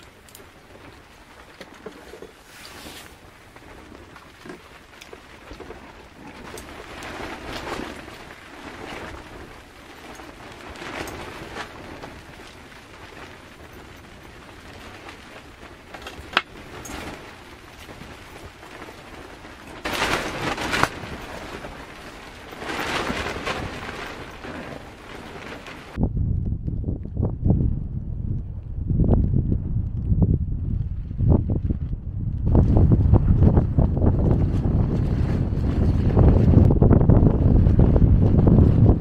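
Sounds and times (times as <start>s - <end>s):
rain pattering on tarp: 0.0s - 27.3s, 27.9s - 39.0s
gusty wind: 0.0s - 39.0s.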